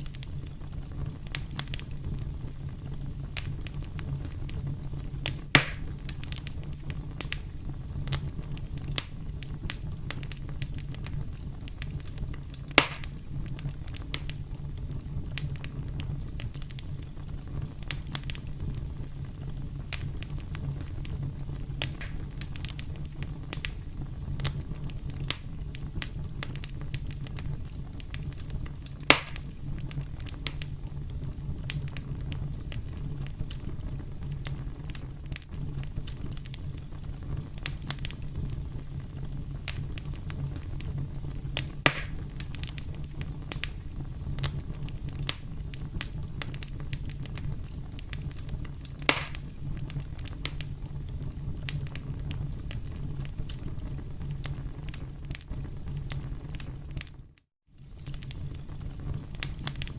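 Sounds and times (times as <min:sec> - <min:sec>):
campfire crackling: 0:00.0 - 0:59.9
wood popping in fire: 0:00.0 - 0:59.9.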